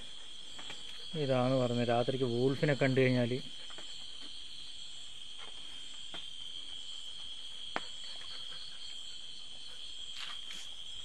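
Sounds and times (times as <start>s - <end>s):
night insects chirring: 0.0s - 11.0s.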